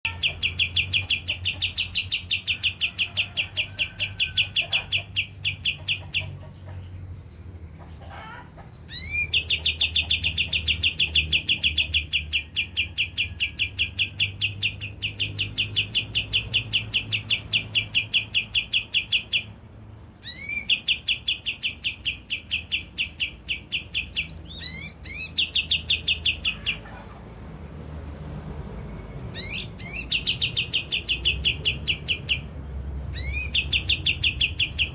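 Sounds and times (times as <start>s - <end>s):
bird singing rapid trills: 0.1s - 6.4s, 8.9s - 19.6s, 20.2s - 26.8s, 29.0s - 34.9s.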